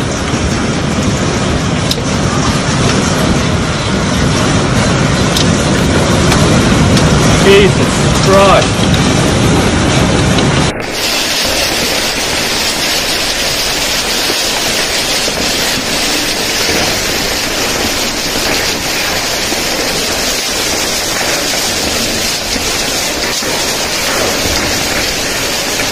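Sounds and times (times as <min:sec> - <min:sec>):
hail pelting the ground: 0:00.0 - 0:25.9.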